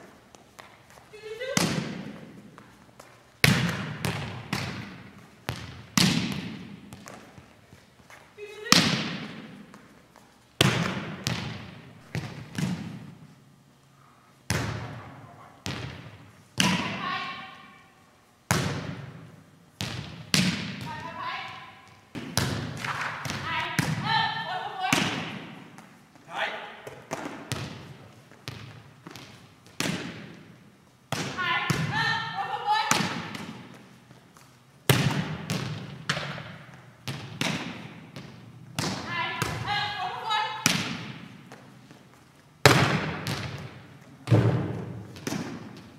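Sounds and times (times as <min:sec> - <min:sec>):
volleyballs slapping gym floor: 0:00.0 - 0:13.3, 0:14.5 - 0:17.4, 0:18.5 - 0:45.9.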